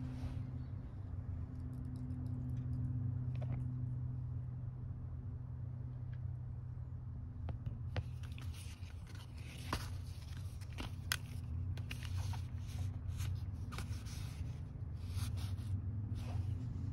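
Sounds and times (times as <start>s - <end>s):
vehicle cabin hum: 0.0s - 16.9s.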